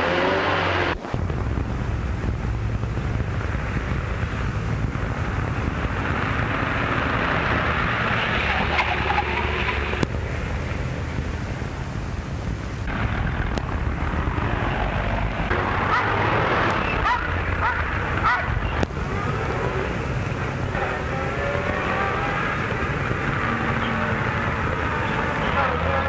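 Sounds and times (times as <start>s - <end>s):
car road noise rushing: 0.0s - 26.0s
low engine hum: 0.0s - 26.0s.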